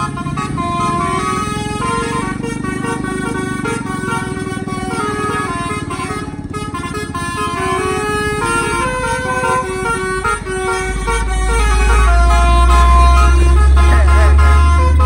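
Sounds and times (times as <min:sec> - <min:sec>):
air horn melody: 0:00.0 - 0:15.0
bus diesel engine running: 0:00.0 - 0:15.0.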